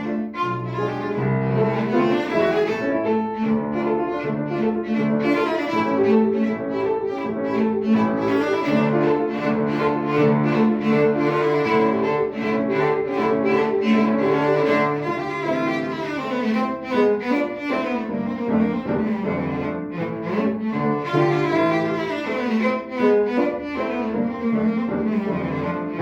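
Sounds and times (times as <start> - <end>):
cello playing: 0.0 - 26.0
piano accompaniment: 0.0 - 26.0.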